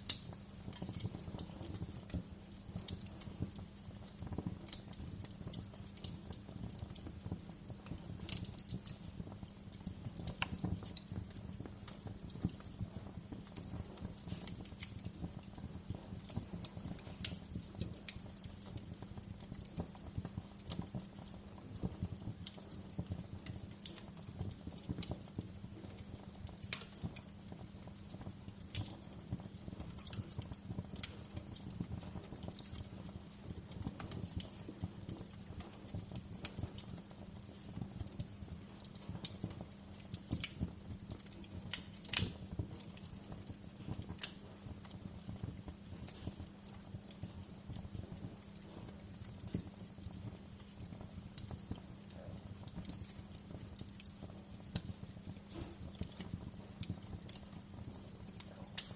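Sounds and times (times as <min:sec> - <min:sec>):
low hum of burning fire: 0:00.0 - 0:58.9
wood fire crackling: 0:00.0 - 0:58.9.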